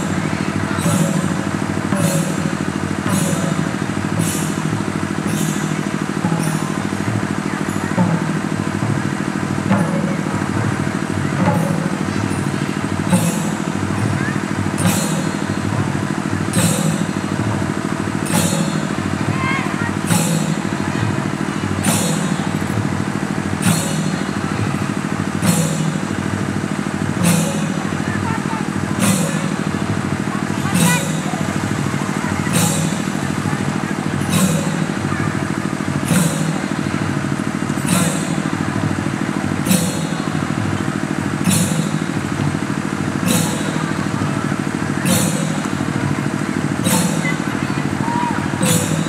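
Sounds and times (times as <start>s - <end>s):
cymbal clashes: 0.0s - 49.0s
drums beating: 0.0s - 49.0s.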